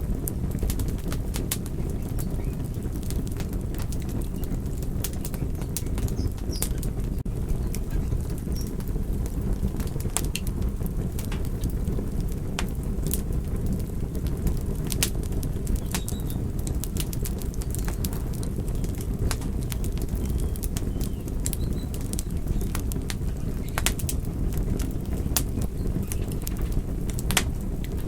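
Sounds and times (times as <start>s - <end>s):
fire crackling and popping: 0.0s - 28.0s
flames rushing: 0.0s - 28.0s.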